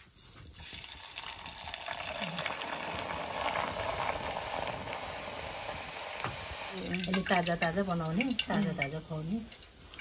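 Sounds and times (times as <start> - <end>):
hot oil sizzling and crackling: 0.0 - 10.0.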